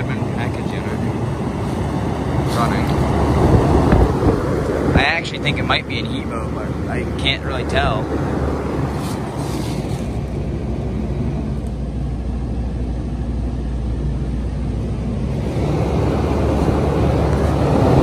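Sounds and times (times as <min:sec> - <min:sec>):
compressor low hum: 0:00.0 - 0:18.0
heat pump fan air rushing: 0:00.0 - 0:18.0.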